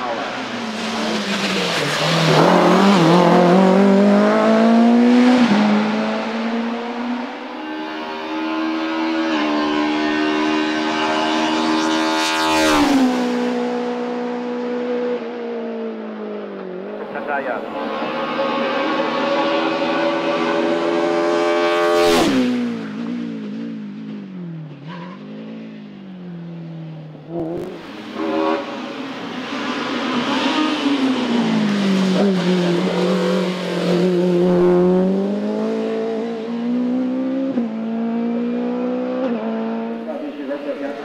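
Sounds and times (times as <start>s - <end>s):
race car engine revving: 0.0s - 26.5s, 27.1s - 41.0s.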